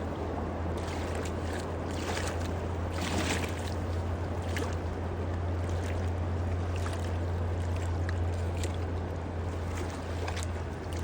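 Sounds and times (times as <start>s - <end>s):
steady low hum: 0.0s - 11.0s
water rushing and splashing: 0.0s - 11.0s.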